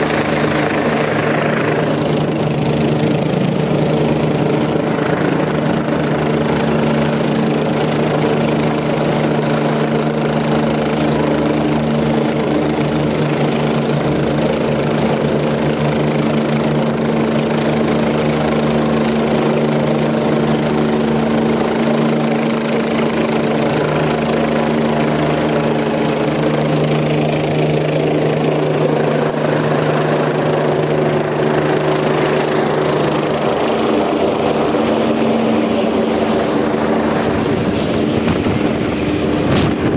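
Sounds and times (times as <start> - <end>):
helicopter turbine and rotor whine: 0.0 - 39.9.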